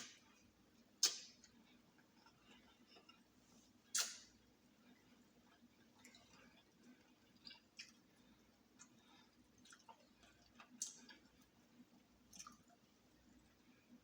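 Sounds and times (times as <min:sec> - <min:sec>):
person chewing with wet smacks: 0:00.0 - 0:14.0.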